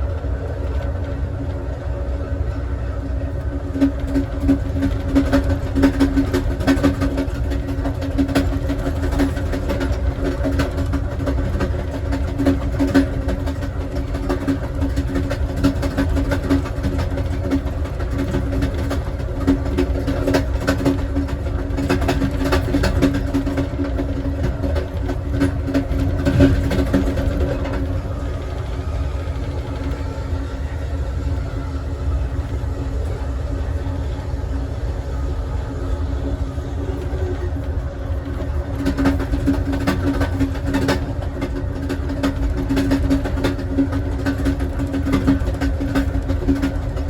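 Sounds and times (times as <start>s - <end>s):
train rumbling: 0.0s - 47.0s
wheels clicking on rails: 0.0s - 47.0s.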